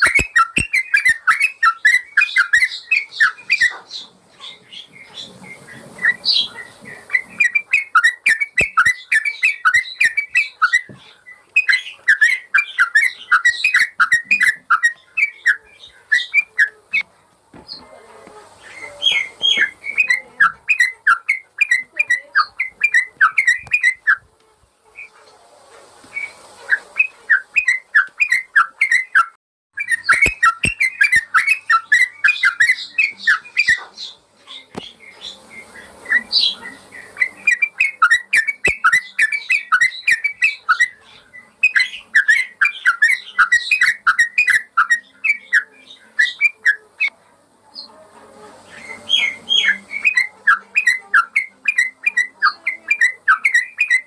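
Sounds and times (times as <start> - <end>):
bird singing fast chirps: 0.0 - 17.0, 18.7 - 24.2, 26.2 - 47.1, 48.7 - 54.0.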